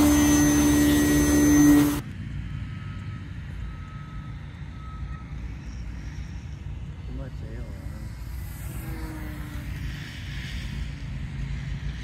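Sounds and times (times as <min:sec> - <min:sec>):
model plane propeller whine: 0:00.0 - 0:12.0.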